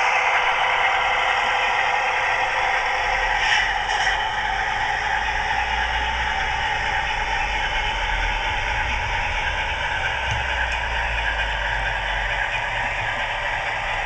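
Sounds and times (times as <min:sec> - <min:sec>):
diesel engine sound through small speaker: 0:00.0 - 0:14.0
model train running on track: 0:00.0 - 0:14.0.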